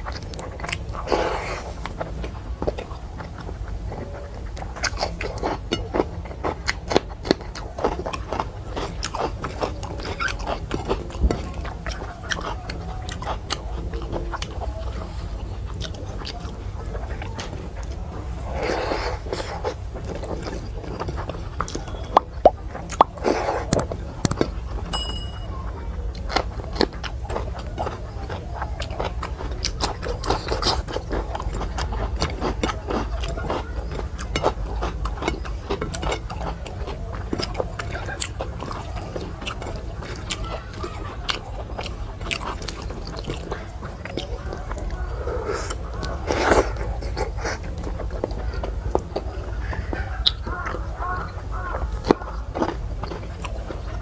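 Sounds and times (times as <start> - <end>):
person chewing and smacking: 0.0 - 54.0.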